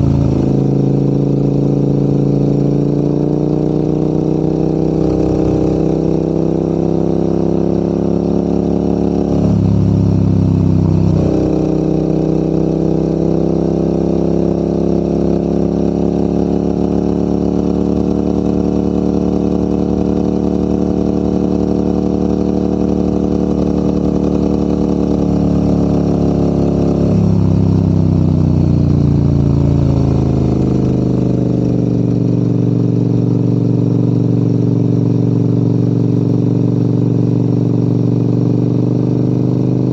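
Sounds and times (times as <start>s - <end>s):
motorcycle engine pulling uphill: 0.0s - 39.9s.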